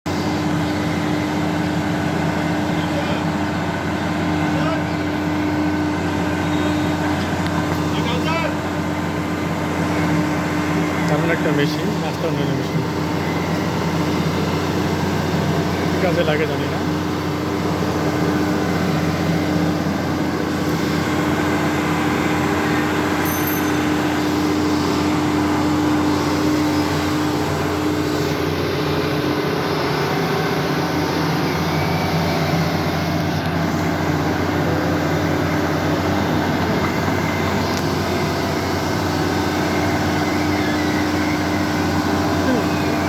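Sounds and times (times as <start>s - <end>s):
construction machine engine droning: 0.1s - 43.0s.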